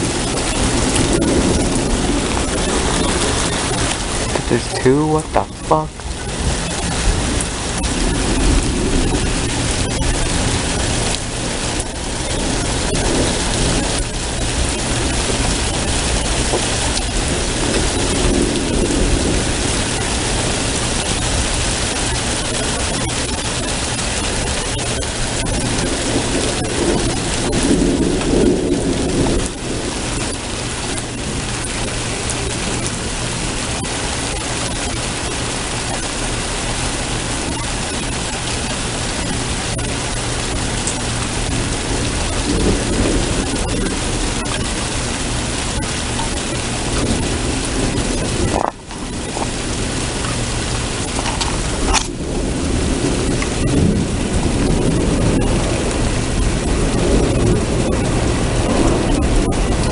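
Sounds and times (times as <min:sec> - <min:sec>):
steady rain: 0:00.0 - 0:59.9
thunder rumbling: 0:00.0 - 0:59.9.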